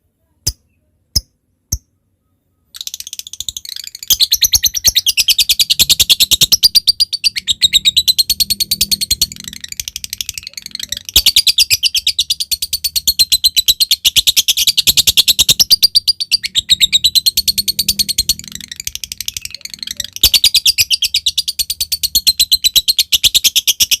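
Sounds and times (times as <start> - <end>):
soft bird chirping: 0.2 - 24.0
lovebird chattering trills: 2.8 - 24.0.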